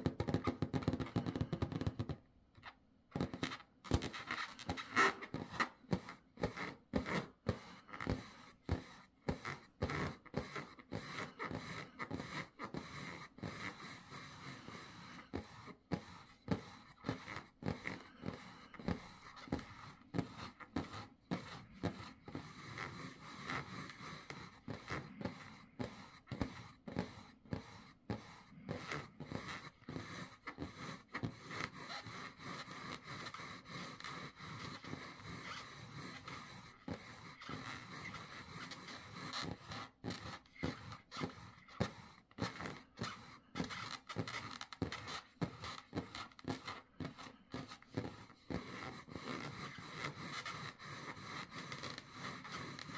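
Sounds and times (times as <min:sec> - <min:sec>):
scratching on a balloon: 0:00.0 - 0:52.9.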